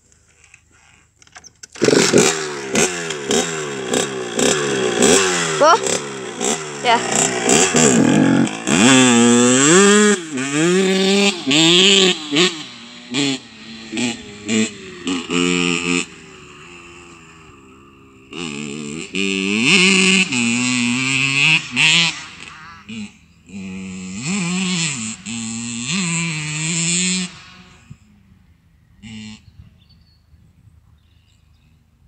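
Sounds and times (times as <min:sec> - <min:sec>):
motorcycle engine revving: 0:00.6 - 0:30.2.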